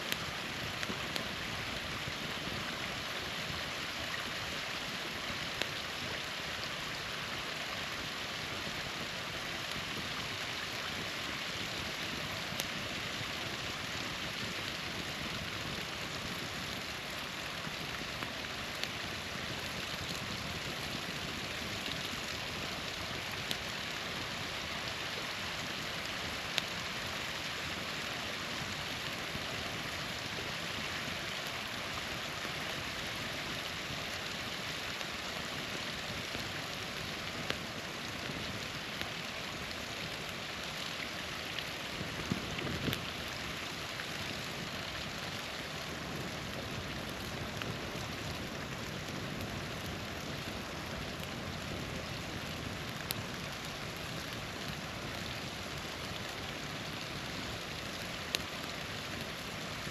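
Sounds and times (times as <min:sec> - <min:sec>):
campfire crackling pops: 0:00.0 - 0:04.2, 0:08.6 - 0:59.9
small waterfall rushing: 0:00.0 - 0:59.9.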